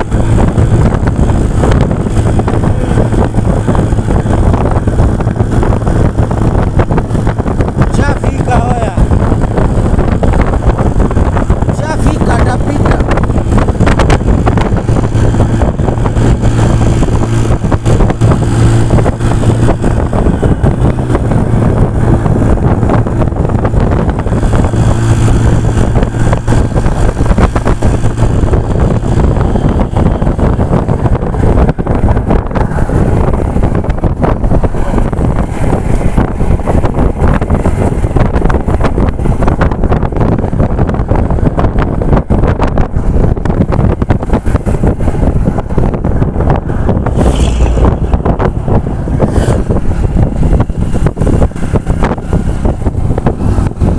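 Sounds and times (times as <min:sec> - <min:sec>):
motorcycle engine running: 0:00.0 - 0:53.9
wind buffeting microphone: 0:00.0 - 0:53.9.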